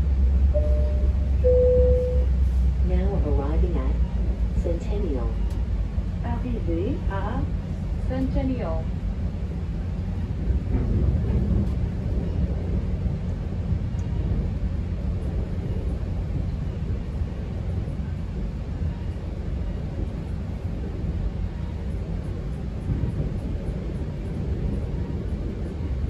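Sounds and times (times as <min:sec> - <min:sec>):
train rumble inside coach: 0:00.0 - 0:26.0.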